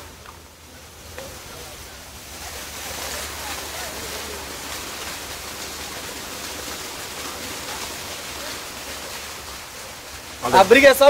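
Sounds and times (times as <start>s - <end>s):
spring water splashing: 0.0s - 11.0s.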